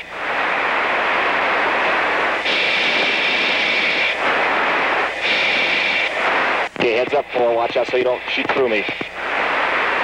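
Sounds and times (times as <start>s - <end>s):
intercom radio rushing noise: 0.0s - 10.0s.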